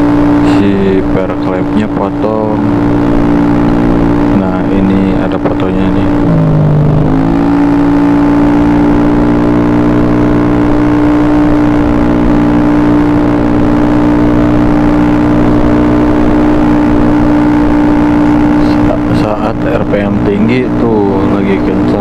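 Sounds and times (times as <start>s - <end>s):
scooter engine running: 0.0s - 22.0s.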